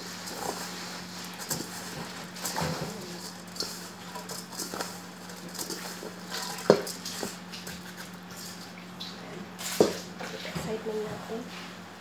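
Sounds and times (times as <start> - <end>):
dough rustling in bowl: 0.0 - 11.8
steady low hum: 0.0 - 12.0.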